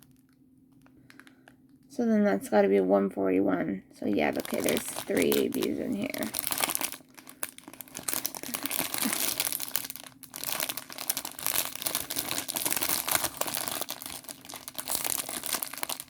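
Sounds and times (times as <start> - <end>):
plastic bags crinkling: 0.0 - 1.8, 4.0 - 16.0.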